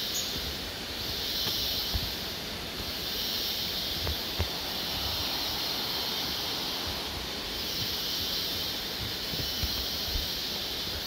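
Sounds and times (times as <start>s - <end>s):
rainforest ambience hiss: 0.0s - 11.0s
soft footsteps on walkway: 0.4s - 11.0s.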